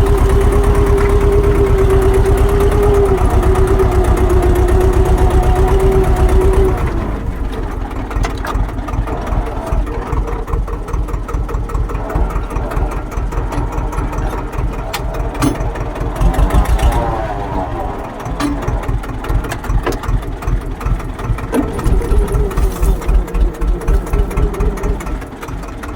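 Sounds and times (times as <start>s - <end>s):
steady whine: 0.0s - 25.9s
tractor diesel engine running: 0.0s - 25.9s.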